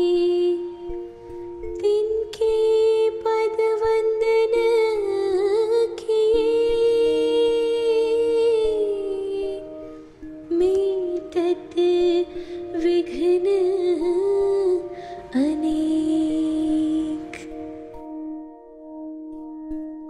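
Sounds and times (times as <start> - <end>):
slow background music: 0.0 - 20.0.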